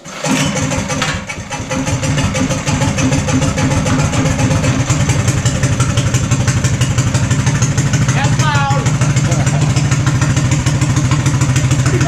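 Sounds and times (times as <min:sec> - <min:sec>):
loud single-cylinder engine running: 0:00.1 - 0:12.0.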